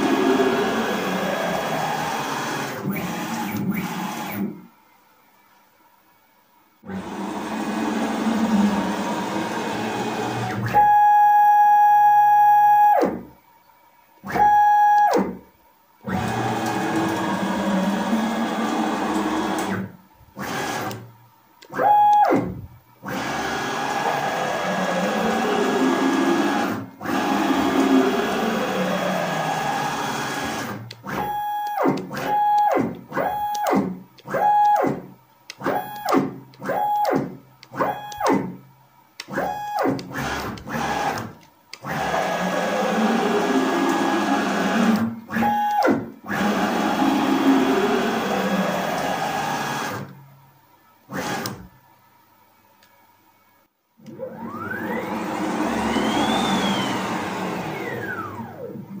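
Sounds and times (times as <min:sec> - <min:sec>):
stepper motors whining: 0:00.0 - 0:04.6, 0:06.8 - 0:11.2, 0:16.0 - 0:38.6, 0:39.2 - 0:50.1, 0:54.0 - 0:59.0.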